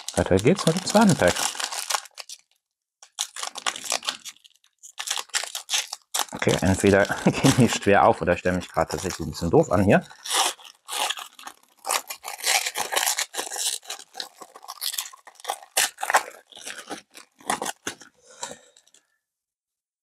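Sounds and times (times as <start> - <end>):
plastic wrapper crinkling and tearing: 0.0 - 19.1.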